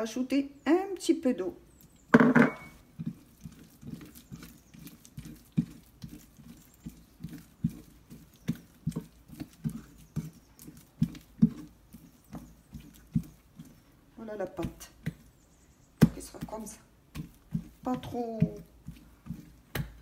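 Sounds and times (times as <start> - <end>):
hand slapping wet dough: 2.9 - 13.8, 14.4 - 20.0.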